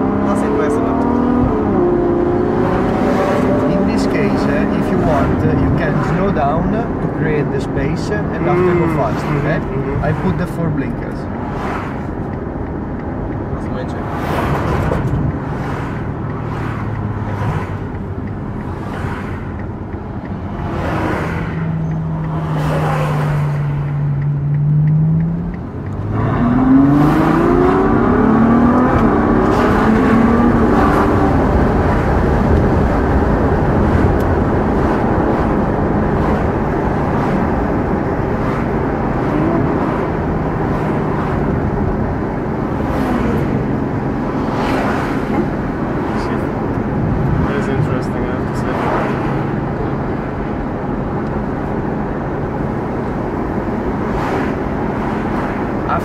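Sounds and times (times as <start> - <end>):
car engine accelerating with upshifts: 0.0 - 56.0
road noise: 0.0 - 56.0.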